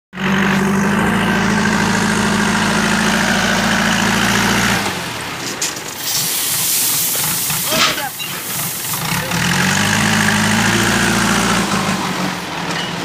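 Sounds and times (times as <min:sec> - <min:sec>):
diesel engine droning: 0:00.1 - 0:13.0.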